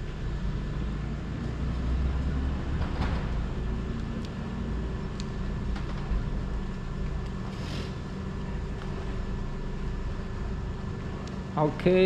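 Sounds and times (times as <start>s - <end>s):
motor vehicle rumble: 0.0s - 11.3s.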